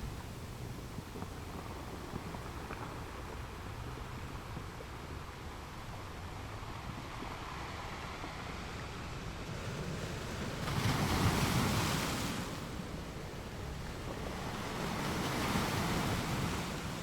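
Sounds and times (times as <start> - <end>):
ocean surf washing: 0.0 - 17.0.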